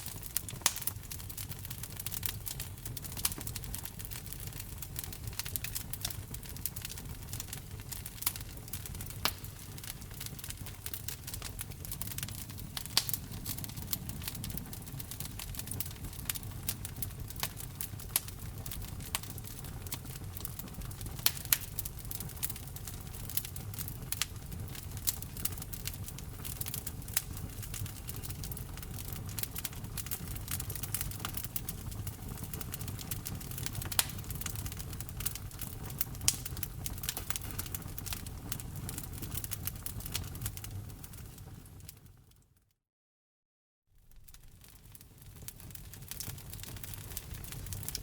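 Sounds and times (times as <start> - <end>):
sharp pops from fire: 0.0 - 42.0, 44.0 - 48.0
low rumble of flames: 0.0 - 42.4, 44.0 - 48.0
wood fire crackling: 0.0 - 42.4, 44.0 - 48.0.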